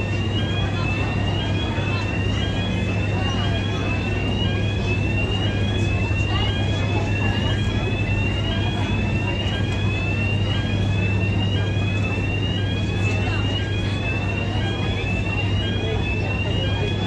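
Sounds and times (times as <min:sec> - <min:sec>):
low machinery hum: 0:00.0 - 0:17.0
rising warning alarm tone: 0:00.0 - 0:17.0.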